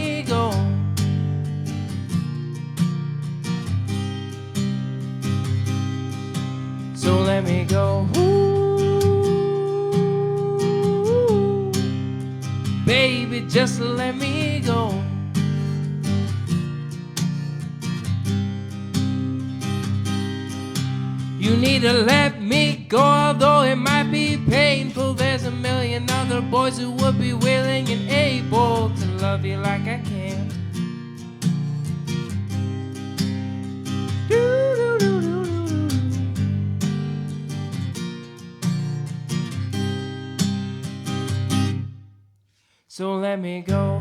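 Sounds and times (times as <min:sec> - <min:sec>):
acoustic guitar strumming: 0:00.0 - 0:42.2.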